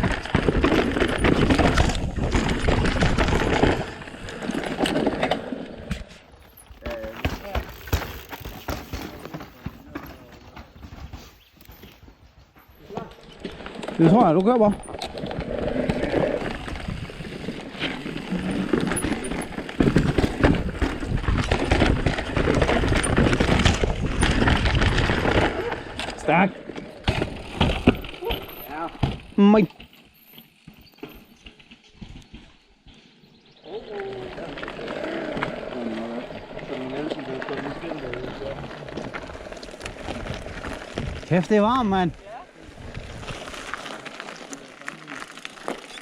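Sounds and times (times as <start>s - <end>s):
bike rattling over bumps: 0.0s - 46.0s.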